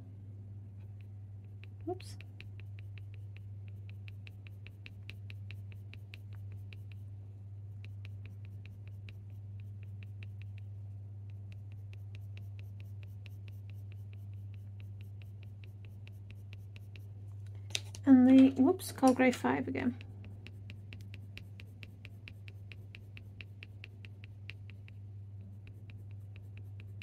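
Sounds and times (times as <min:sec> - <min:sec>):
steady low hum: 0:00.0 - 0:27.0
pencil scratching on paper: 0:00.8 - 0:07.1, 0:07.7 - 0:17.2, 0:19.2 - 0:27.0.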